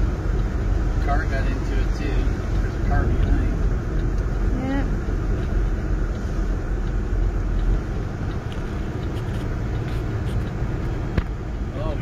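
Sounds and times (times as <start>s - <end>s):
road rumble: 0.0s - 12.0s
vehicle engine noise: 0.0s - 12.0s.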